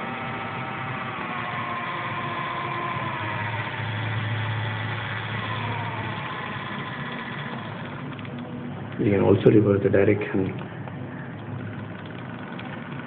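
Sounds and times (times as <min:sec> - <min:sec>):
small motor whining: 0:00.0 - 0:13.0.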